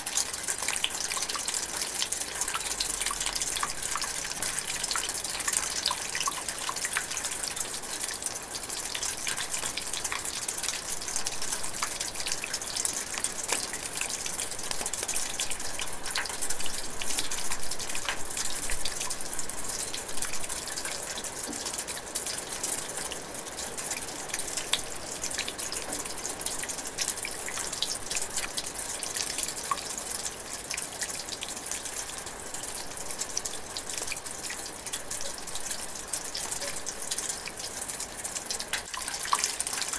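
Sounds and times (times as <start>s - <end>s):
raindrops dripping and ticking: 0.0s - 39.9s
steady hiss of rainfall: 0.0s - 39.9s.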